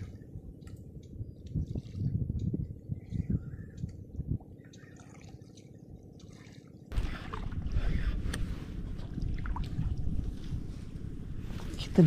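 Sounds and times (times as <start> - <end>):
wind buffeting microphone: 0.0 - 4.7, 6.9 - 12.0
faint water: 0.0 - 12.0.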